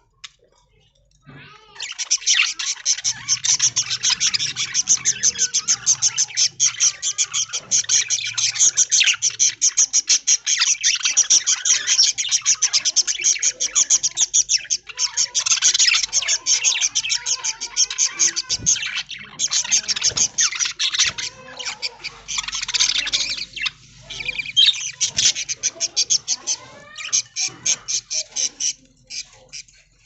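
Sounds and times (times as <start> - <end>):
flock of budgerigars chirping: 0.0 - 30.0.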